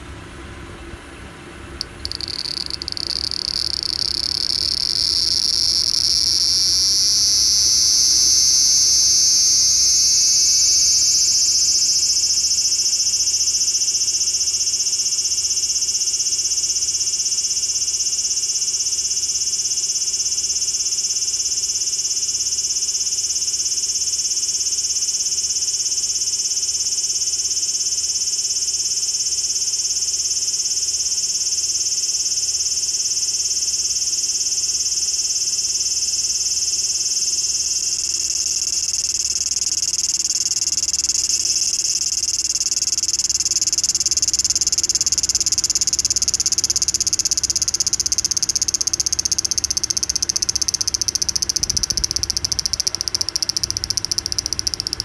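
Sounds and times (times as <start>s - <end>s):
cicada buzzing drone: 1.8s - 55.0s.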